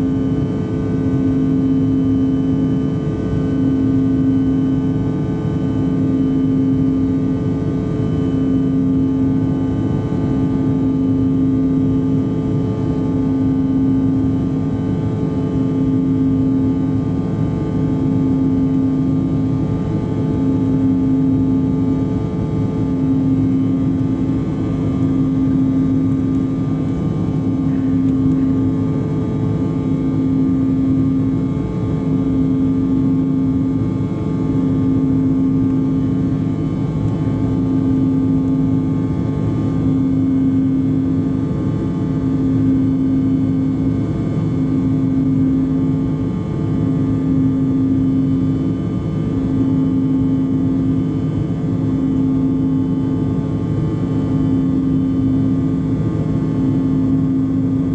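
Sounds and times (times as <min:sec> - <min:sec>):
low pulsing hum: 0:00.0 - 0:57.9.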